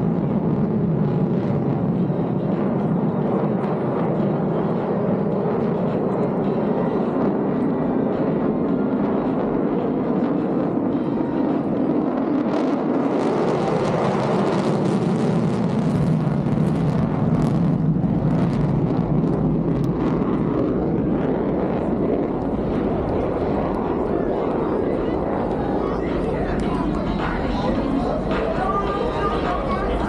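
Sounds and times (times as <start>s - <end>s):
fighter jet engine rush: 0.0s - 30.0s.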